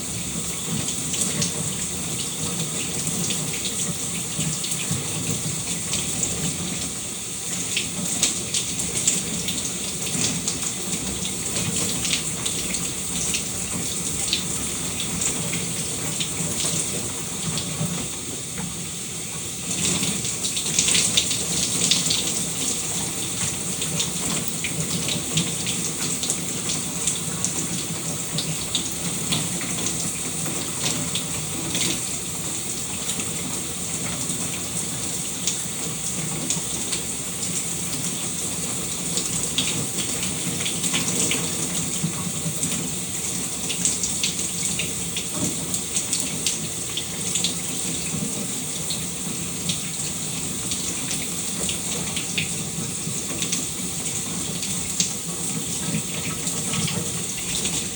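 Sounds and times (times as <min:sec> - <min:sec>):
shower water spraying: 0:00.0 - 0:57.9.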